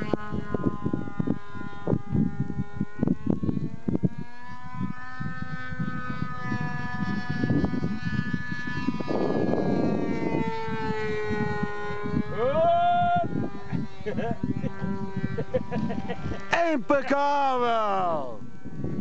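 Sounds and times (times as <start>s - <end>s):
model airplane engine whine: 0.0s - 19.0s.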